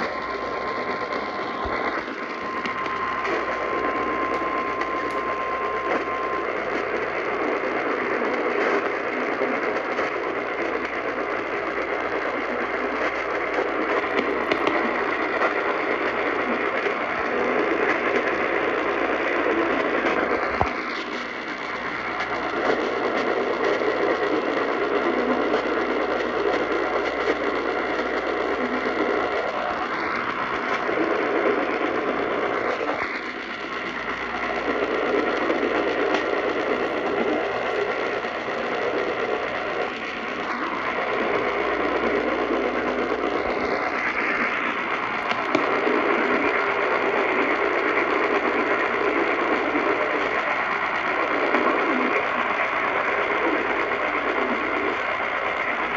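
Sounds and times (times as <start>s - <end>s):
radio static hiss: 0.0s - 55.9s.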